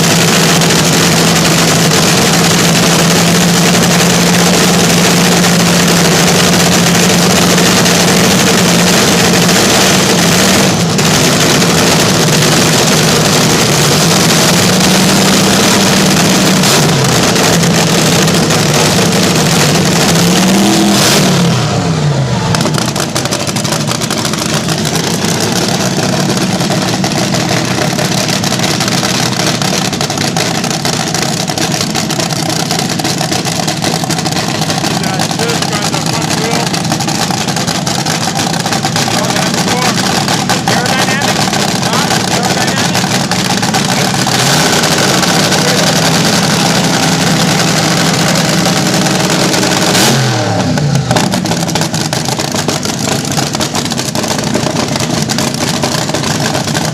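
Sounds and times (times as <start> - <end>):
dragster engine at high revs: 0.0 - 56.9.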